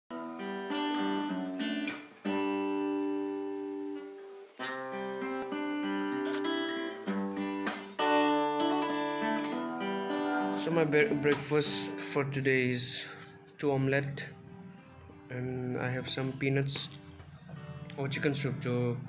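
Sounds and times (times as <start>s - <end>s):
acoustic guitar strumming chords: 0.1s - 19.0s.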